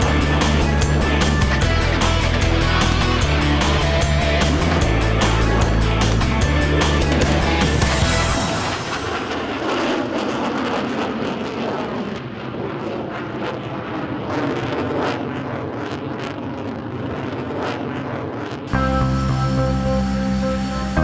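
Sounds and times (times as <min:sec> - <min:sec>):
jet engines roaring in flight: 0:00.0 - 0:21.0.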